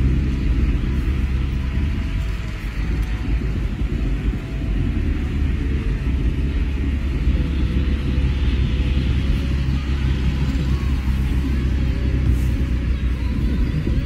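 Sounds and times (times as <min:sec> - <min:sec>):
car interior road and engine rumble: 0:00.0 - 0:14.0.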